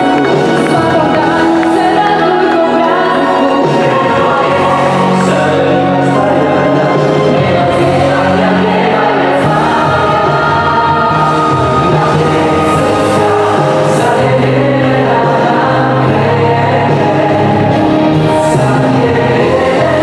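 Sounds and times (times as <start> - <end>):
choir singing with accompaniment: 0.0 - 20.0.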